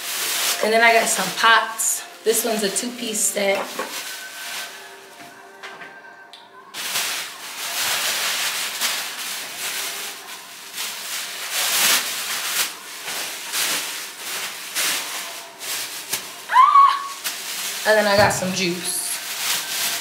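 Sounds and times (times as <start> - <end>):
plastic bags rustling and crinkling: 0.0 - 5.4, 6.7 - 20.0.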